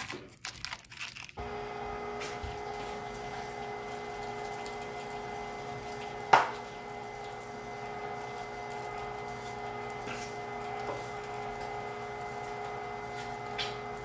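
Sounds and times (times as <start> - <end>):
electric meat grinder humming: 1.3 - 14.0.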